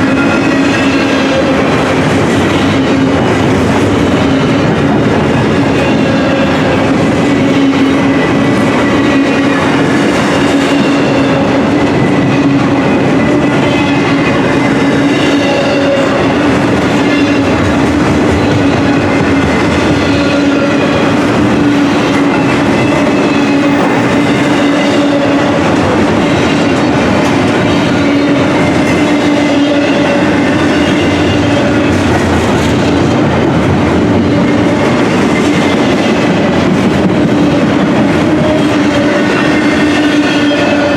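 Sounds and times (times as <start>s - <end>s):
wheels clattering on rails: 0.0s - 40.9s.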